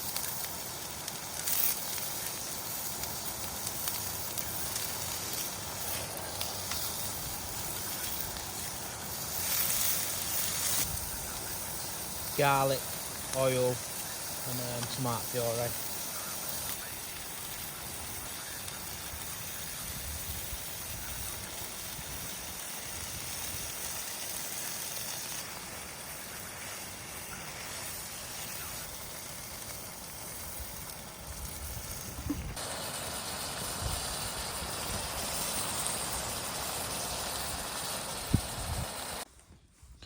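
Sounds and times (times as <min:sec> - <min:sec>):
food frying in a pan: 0:00.0 - 0:39.3.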